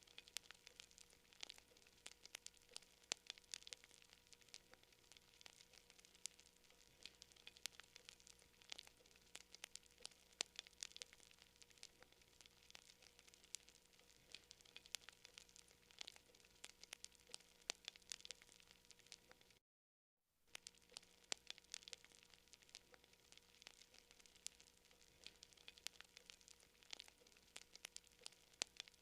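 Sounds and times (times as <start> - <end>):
campfire crackling: 0.0 - 19.6, 20.5 - 29.0
faint steady hum: 0.0 - 19.6, 20.4 - 29.0.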